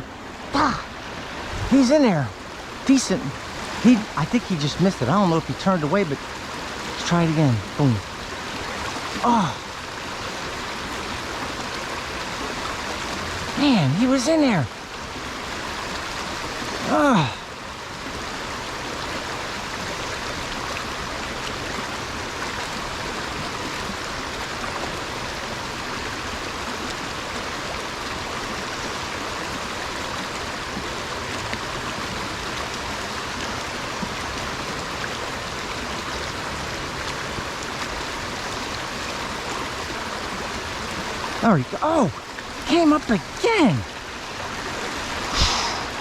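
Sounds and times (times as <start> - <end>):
stream running over rocks: 0.0 - 46.0.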